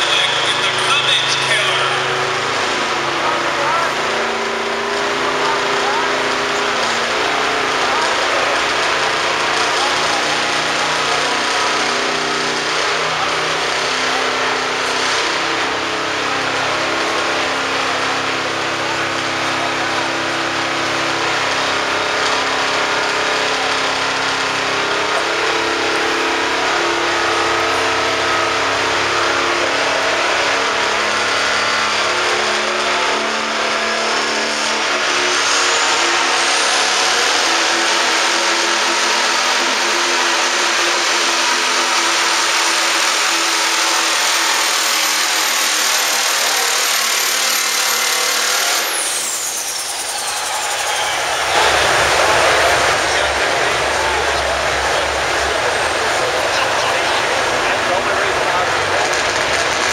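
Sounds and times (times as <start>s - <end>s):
diesel truck engine under load: 0.0s - 59.9s
turbocharger whistle: 0.0s - 59.9s.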